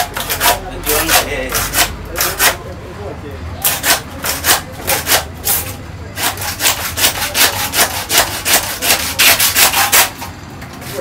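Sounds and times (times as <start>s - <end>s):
hand saw cutting meat and bone: 0.0s - 2.6s, 3.6s - 11.0s.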